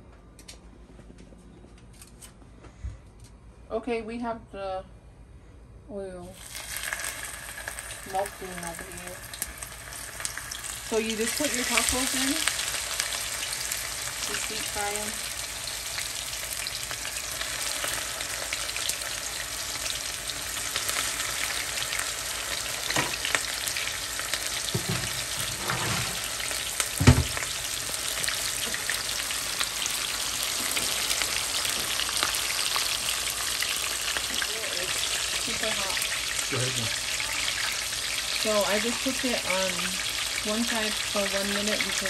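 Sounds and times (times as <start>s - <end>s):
food deep frying in oil: 6.3s - 42.0s.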